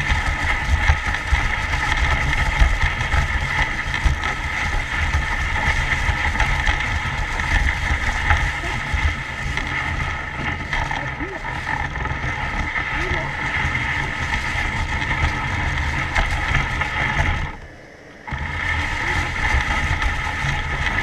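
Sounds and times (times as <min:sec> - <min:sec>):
steady hiss: 0:00.0 - 0:21.0
wind buffeting microphone: 0:00.0 - 0:21.0.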